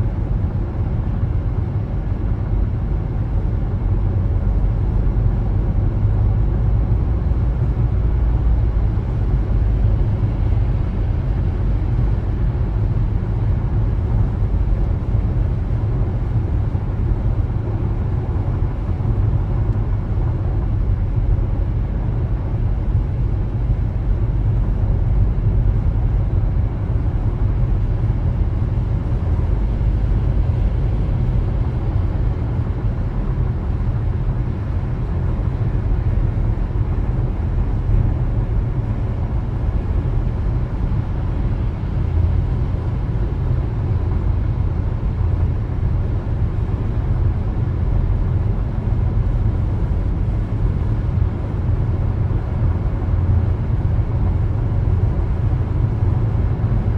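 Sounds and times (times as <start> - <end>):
car road and tyre noise: 0.0 - 56.9.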